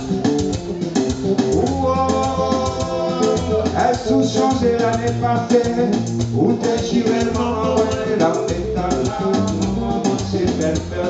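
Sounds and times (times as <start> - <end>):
bass line: 0.0 - 11.0
electric guitar: 0.0 - 11.0
percussion beat: 0.0 - 11.0.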